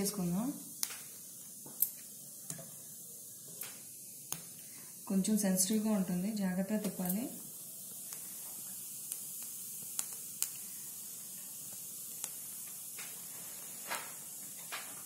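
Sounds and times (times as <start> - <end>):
sharp crackle: 0.0 - 5.9, 6.6 - 15.0
faint sizzling hiss: 0.0 - 15.0.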